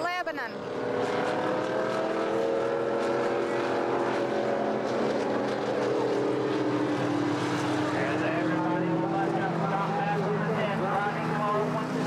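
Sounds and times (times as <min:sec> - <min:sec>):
racing car engines droning: 0:00.2 - 0:12.0.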